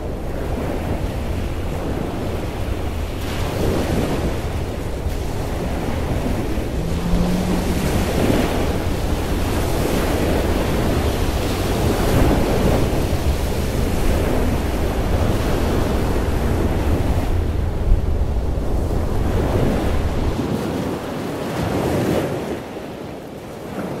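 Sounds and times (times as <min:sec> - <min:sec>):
waves breaking: 0:00.0 - 0:24.0
wind buffeting microphone: 0:00.0 - 0:24.0.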